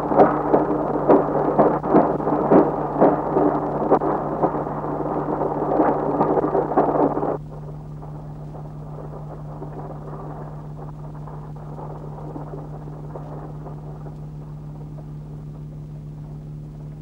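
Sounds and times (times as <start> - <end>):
loud crackling rumble: 0.0 - 17.0
steady low hum: 0.0 - 17.0.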